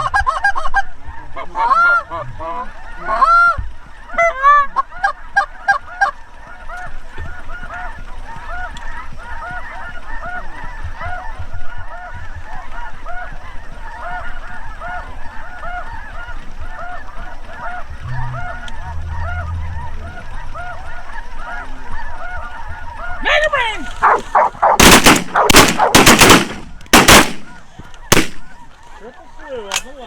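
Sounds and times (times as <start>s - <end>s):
geese honking and cackling: 0.0s - 30.0s.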